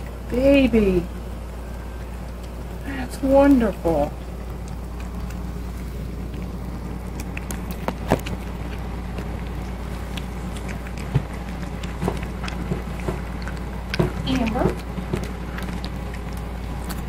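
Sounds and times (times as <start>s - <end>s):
cat chewing food: 0.0s - 17.0s
steady low hum: 0.0s - 17.0s.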